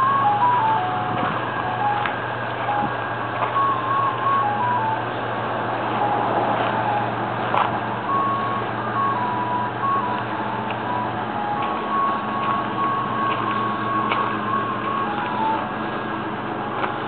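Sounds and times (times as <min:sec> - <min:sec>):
ice cream truck chime tune: 0:00.0 - 0:17.0
truck engine idling: 0:00.0 - 0:17.0.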